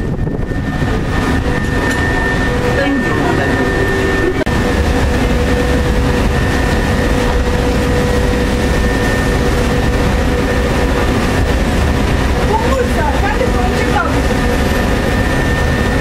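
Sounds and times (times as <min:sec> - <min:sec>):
tram equipment humming: 0:00.0 - 0:16.0.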